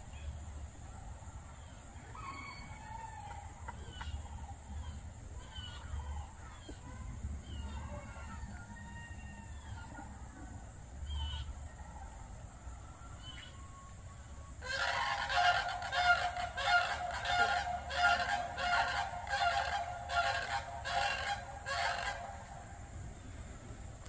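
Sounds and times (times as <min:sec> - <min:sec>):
loud repeated bird calls: 0:00.0 - 0:08.6, 0:09.2 - 0:24.0
faint birdsong chirps: 0:00.0 - 0:24.0
steady high hiss: 0:00.0 - 0:24.0.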